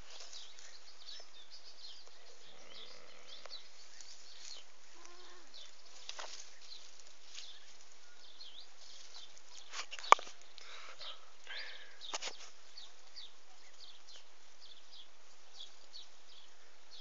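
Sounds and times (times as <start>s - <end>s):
grass rustling: 0.0s - 17.0s
small birds chirping: 0.0s - 17.0s
steady outdoor hiss: 0.0s - 17.0s.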